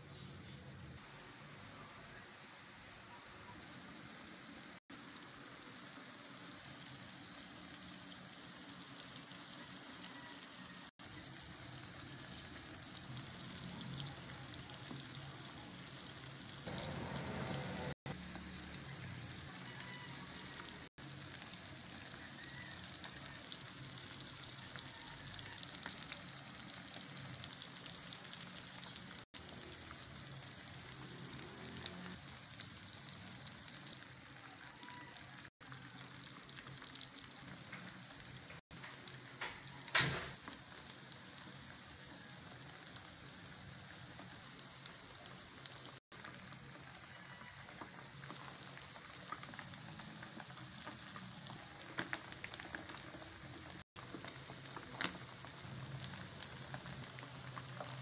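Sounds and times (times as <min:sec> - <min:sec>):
fish frying in hot oil: 0:02.3 - 0:58.0.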